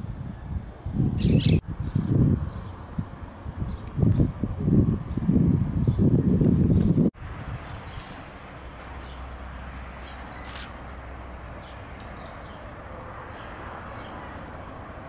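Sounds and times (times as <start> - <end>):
birds chirping: 0.4 - 7.1, 8.8 - 15.0.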